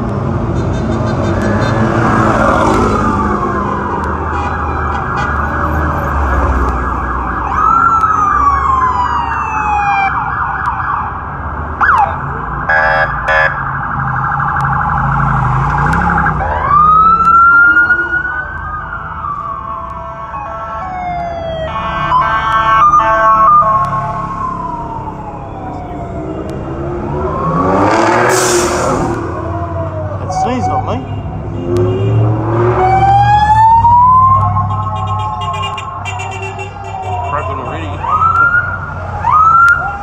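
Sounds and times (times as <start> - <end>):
electronic siren wailing: 1.4 - 11.2, 11.8 - 28.3, 32.4 - 40.0.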